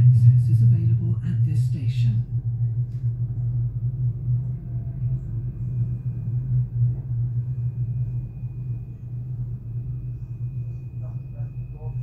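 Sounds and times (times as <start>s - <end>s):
faint high-pitched whine: 0.0s - 12.0s
train interior low rumble: 0.0s - 12.0s.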